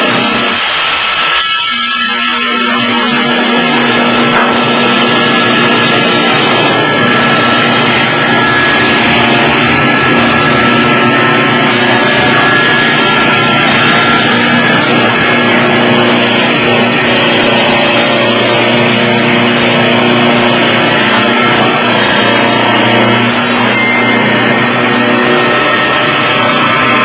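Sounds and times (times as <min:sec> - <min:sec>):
lathe motor hum and cutting: 0:00.0 - 0:27.0.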